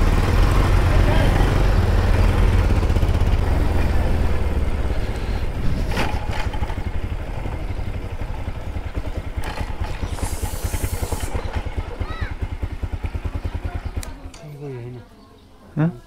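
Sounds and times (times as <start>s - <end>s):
motorcycle engine idling: 0.0s - 15.6s.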